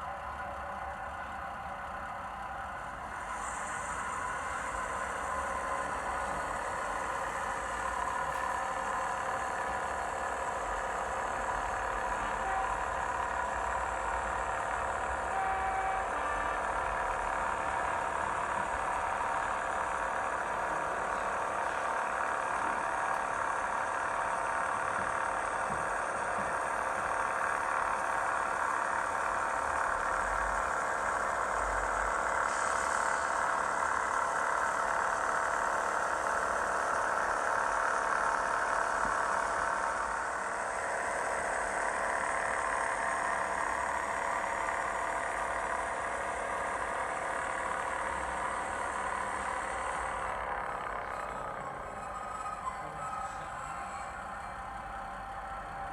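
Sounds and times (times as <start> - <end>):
model train diesel engine sound: 0.0 - 55.9.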